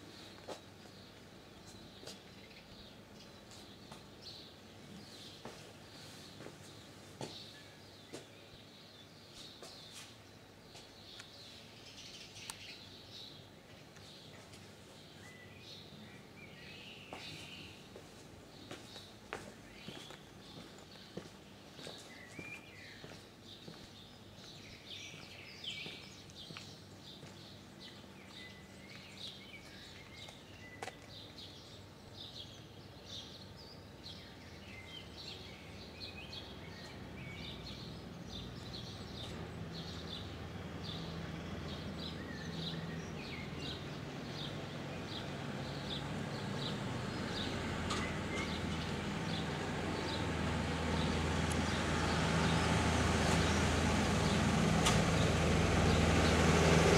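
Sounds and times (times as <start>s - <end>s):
road traffic rumble: 0.0s - 56.9s
small birds chirping: 0.0s - 56.9s.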